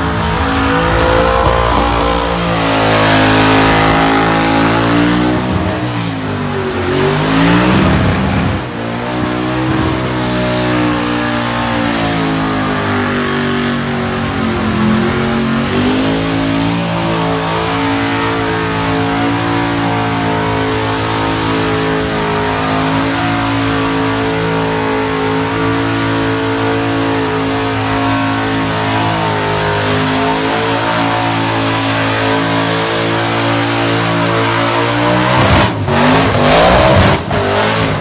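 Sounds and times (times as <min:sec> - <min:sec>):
car engine at high revs: 0:00.0 - 0:38.0.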